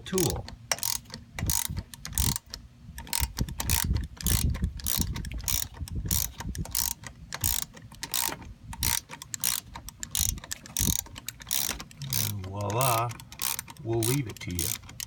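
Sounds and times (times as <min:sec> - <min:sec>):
ratchet wrench clicking: 0:00.2 - 0:15.0.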